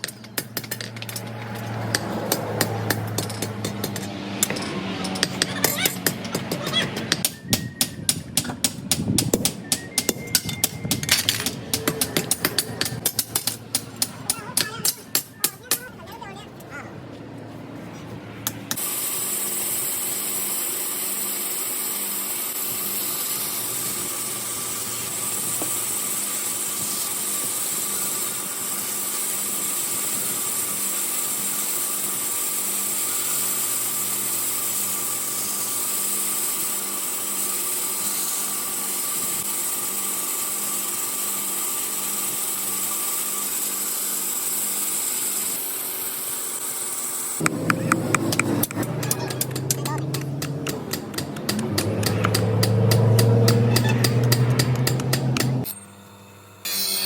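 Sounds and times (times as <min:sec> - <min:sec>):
power tool running: 0:00.0 - 0:16.7, 0:18.4 - 0:57.0.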